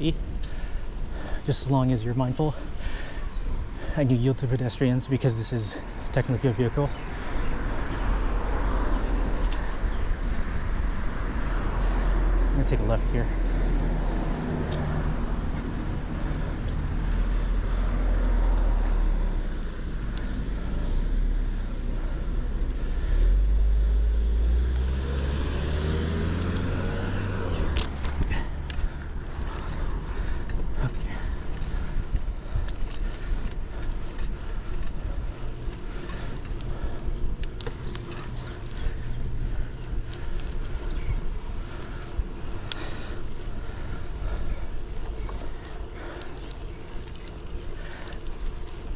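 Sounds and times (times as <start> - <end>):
bicycle rattling over pavement: 0.0 - 48.9
motor vehicle passing: 0.0 - 48.9
wind rumble on microphone: 4.6 - 45.8.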